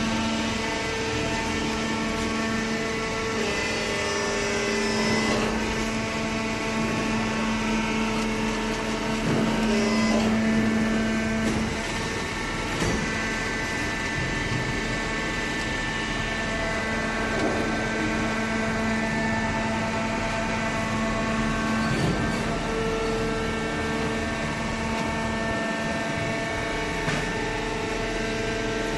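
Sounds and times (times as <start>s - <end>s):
hydraulic pump motor humming: 0.0s - 28.9s.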